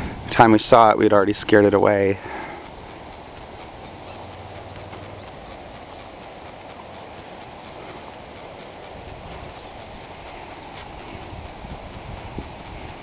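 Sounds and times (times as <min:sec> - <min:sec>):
faint high insect trill: 0:00.0 - 0:11.7
outdoor rushing noise: 0:00.0 - 0:13.0.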